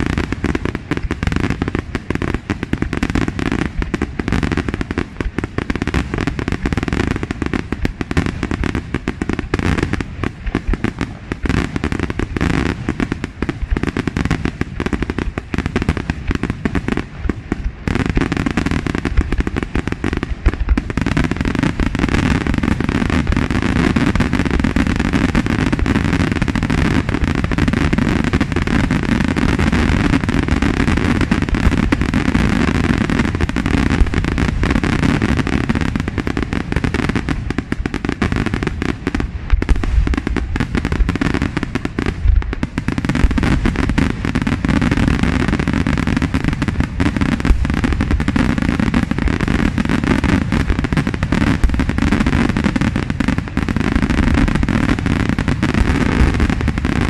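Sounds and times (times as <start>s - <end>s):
firework crackling: 0.0s - 57.0s.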